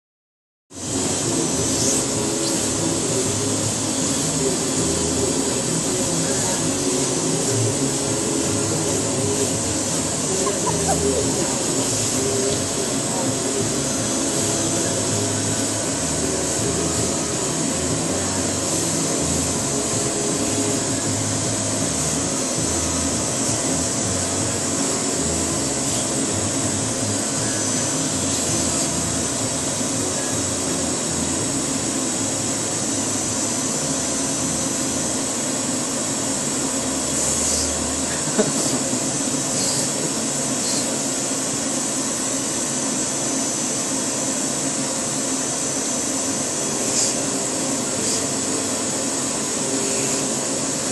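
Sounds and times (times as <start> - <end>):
vacuum cleaner running: 0.7 - 50.9.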